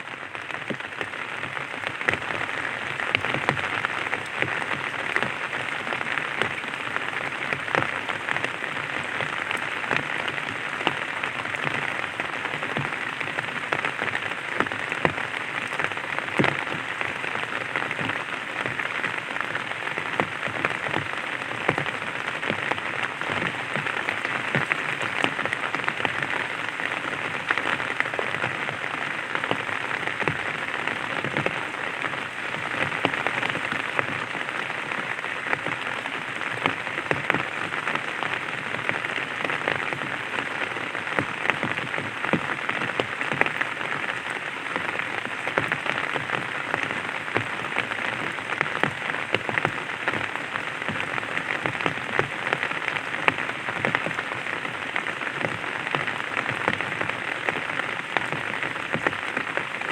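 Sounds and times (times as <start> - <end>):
rain pattering on an umbrella: 0.0 - 59.9.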